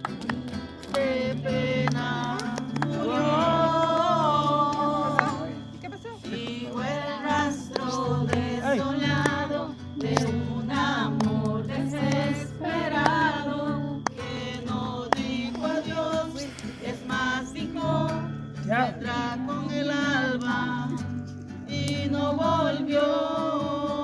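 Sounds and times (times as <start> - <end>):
person singing: 1.0 - 5.7, 6.3 - 24.0.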